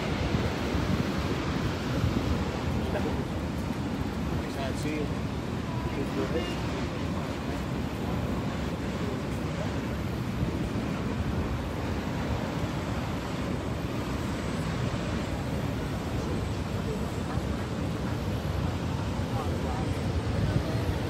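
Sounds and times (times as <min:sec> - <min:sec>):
roar of waterfall: 0:00.0 - 0:21.0.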